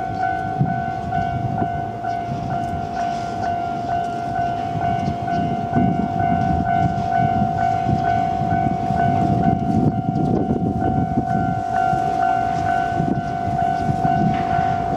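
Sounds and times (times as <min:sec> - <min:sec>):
freight train rumble: 0:00.0 - 0:14.9
level-crossing warning bell: 0:00.0 - 0:14.9.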